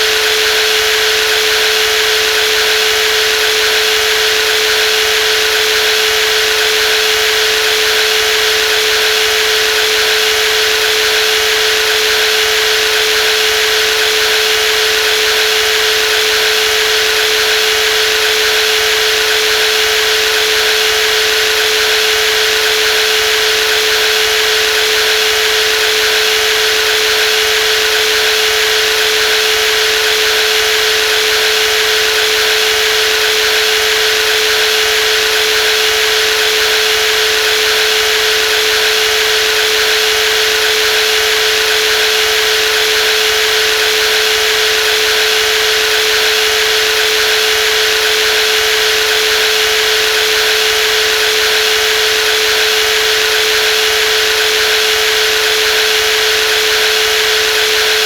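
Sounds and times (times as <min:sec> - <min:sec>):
jigsaw running: 0:00.0 - 0:58.0.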